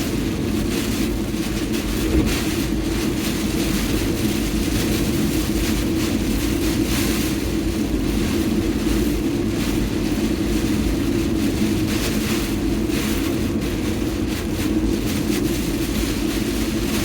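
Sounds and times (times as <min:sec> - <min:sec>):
car interior engine drone: 0:00.0 - 0:17.0.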